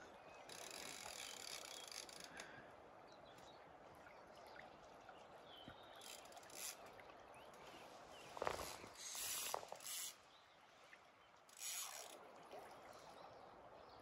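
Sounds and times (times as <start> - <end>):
faint rush of river water: 0.0 - 14.0.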